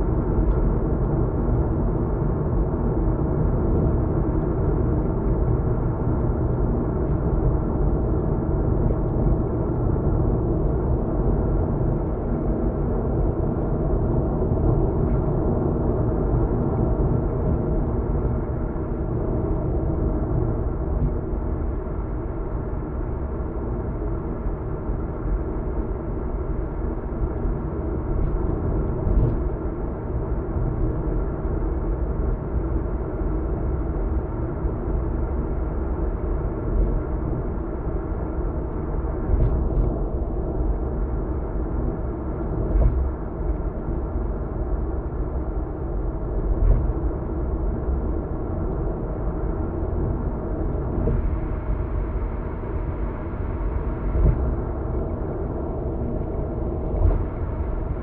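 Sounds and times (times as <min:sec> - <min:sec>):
car tyre and engine road noise: 0:00.0 - 0:58.0.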